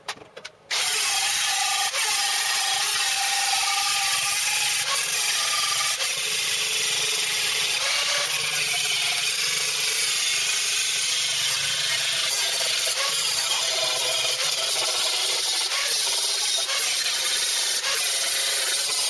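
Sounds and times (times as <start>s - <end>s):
angle grinder grinding steel: 0.7s - 19.0s.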